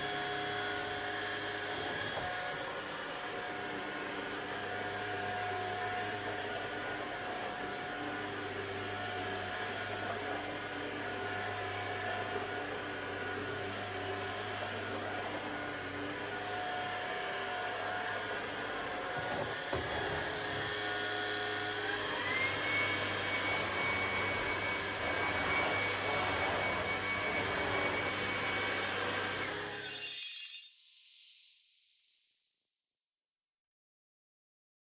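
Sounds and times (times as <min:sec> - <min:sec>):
vacuum cleaner motor whine: 0:00.0 - 0:31.8.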